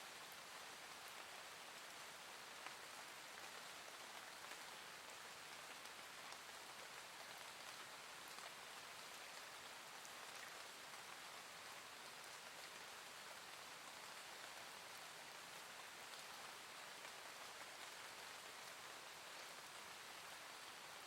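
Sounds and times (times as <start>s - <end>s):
gentle rain falling: 0.0s - 21.0s
small raindrop ticks: 0.2s - 21.0s.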